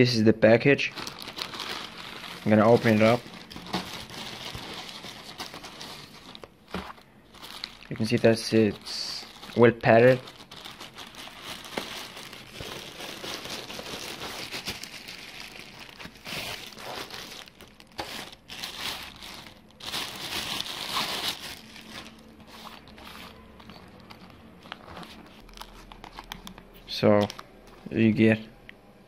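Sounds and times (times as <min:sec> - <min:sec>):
foam and plastic crinkling: 0:00.8 - 0:26.4.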